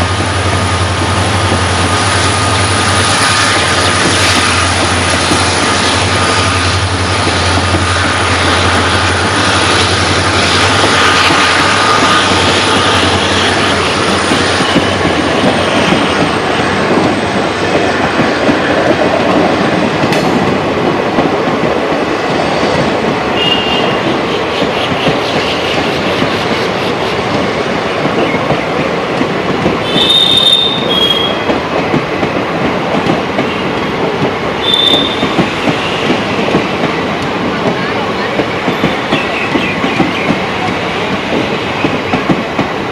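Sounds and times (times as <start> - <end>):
train wheels clattering over rail joints: 0.0 - 23.5, 24.2 - 42.9.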